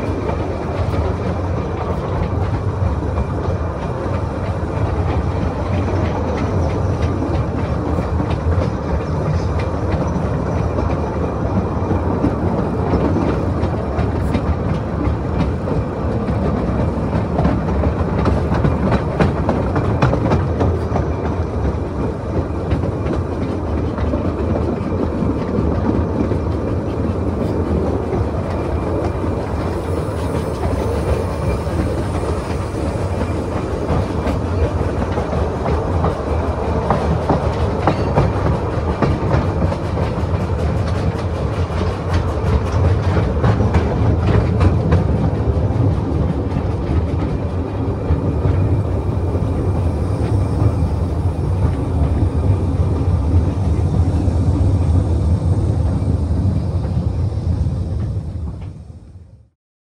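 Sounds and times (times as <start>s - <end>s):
wheels clicking over rail joints: 0.0s - 49.7s
train wheels rumbling: 0.0s - 59.5s.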